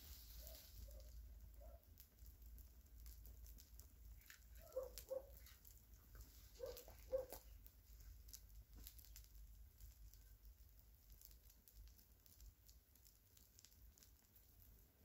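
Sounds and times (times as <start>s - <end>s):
burning matches crackling: 0.0s - 15.0s.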